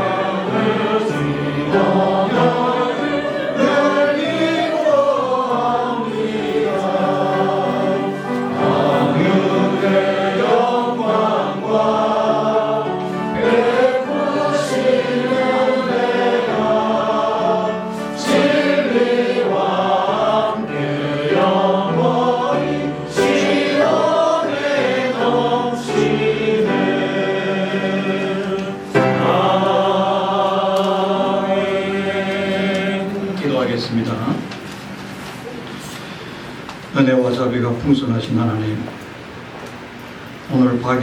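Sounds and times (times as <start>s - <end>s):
congregation singing a hymn: 0.0s - 41.0s.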